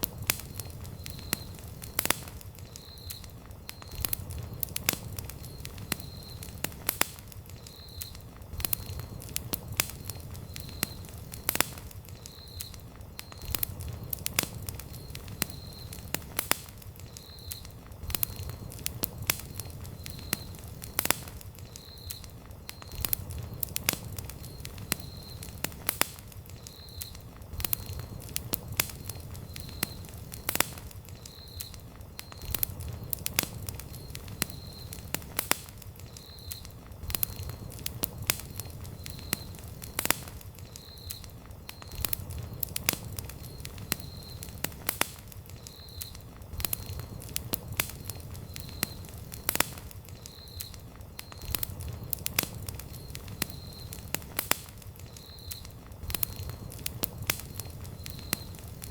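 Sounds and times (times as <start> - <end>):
campfire crackling and popping: 0.0 - 58.9
rush of flame: 0.0 - 58.9.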